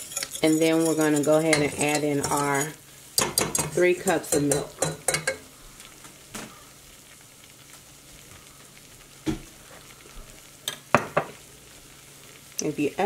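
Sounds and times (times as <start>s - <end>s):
roux sizzling and bubbling: 0.0s - 13.0s.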